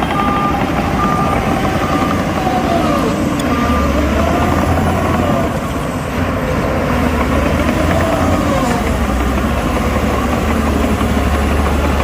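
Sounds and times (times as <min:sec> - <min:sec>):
reversing alarm beeping: 0:00.0 - 0:06.0, 0:08.0 - 0:12.0
diesel engines under load: 0:00.0 - 0:12.0.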